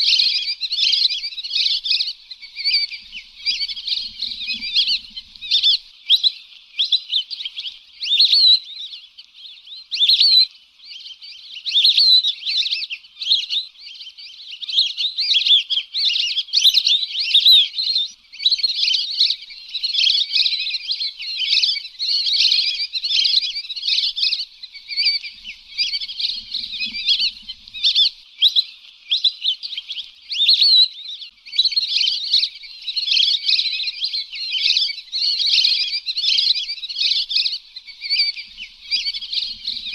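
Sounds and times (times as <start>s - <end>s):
ducks whistling calls: 0.0s - 39.9s.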